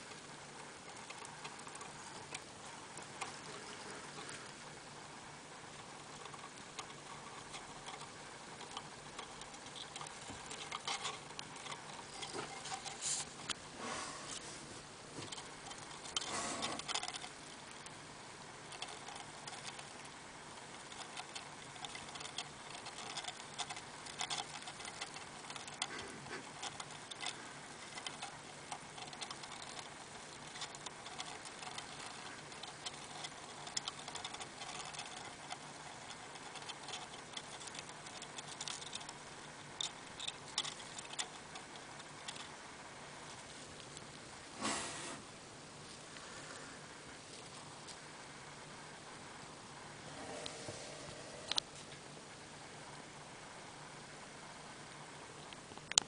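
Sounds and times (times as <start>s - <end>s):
hamster gnawing seeds: 0.0s - 56.0s.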